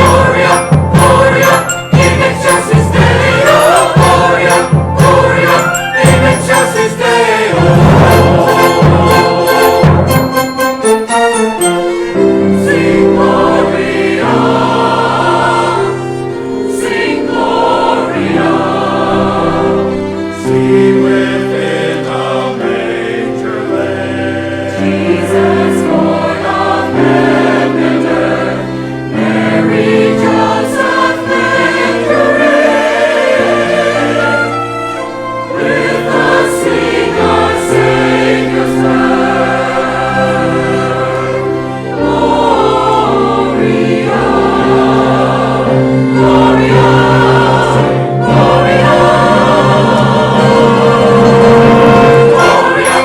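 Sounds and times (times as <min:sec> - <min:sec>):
choir singing: 0:00.0 - 0:53.0
orchestral accompaniment: 0:00.0 - 0:53.0.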